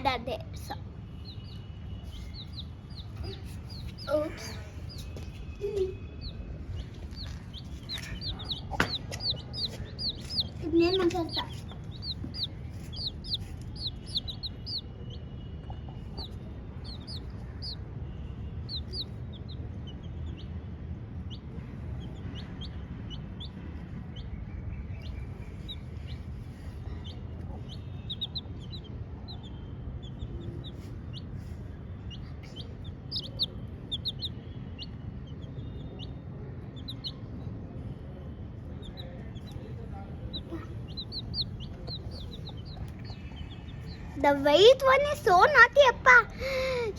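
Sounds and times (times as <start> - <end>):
chicks peeping: 1.1 - 45.5.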